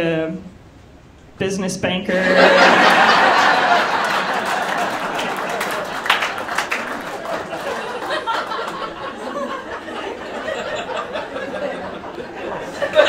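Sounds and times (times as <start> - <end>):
audience laughing: 2.1 - 13.0.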